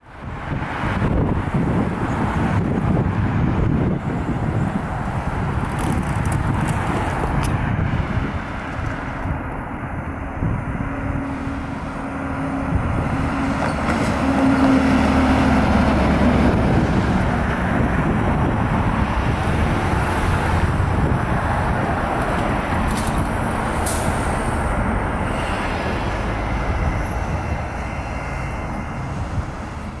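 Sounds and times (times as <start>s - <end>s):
road noise: 0.0s - 30.0s
diesel truck engine running: 2.5s - 30.0s.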